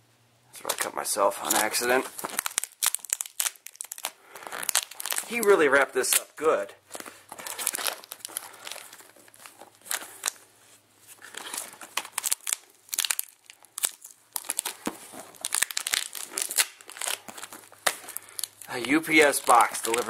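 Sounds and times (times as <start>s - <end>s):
plastic tearing: 0.6s - 10.5s, 11.1s - 20.0s
plastic wrapping crinkling: 0.6s - 20.0s.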